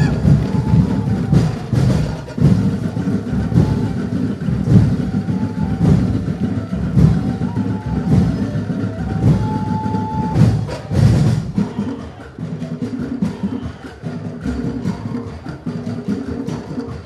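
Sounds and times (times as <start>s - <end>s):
festival drum and percussion music: 0.0s - 17.0s.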